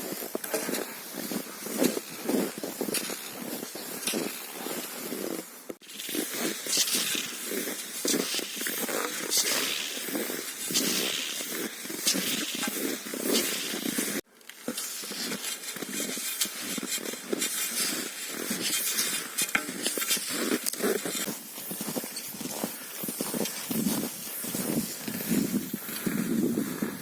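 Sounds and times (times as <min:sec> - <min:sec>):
skis crunching on frosty snow: 0:00.0 - 0:27.0.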